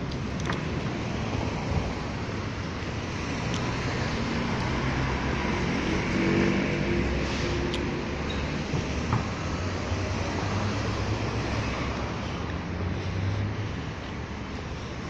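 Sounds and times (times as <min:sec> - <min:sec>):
vehicle engine: 0:00.0 - 0:15.0
vehicles passing: 0:00.0 - 0:15.0.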